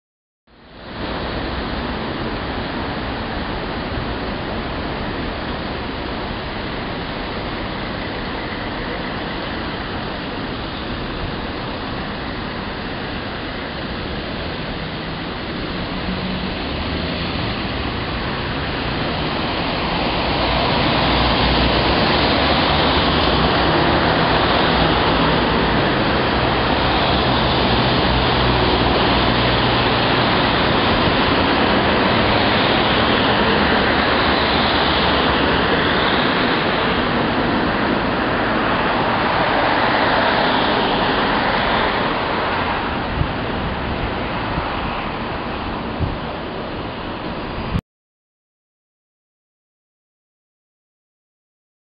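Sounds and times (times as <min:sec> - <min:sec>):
cars passing by: 0:00.5 - 0:47.8
road traffic hum: 0:00.5 - 0:47.8.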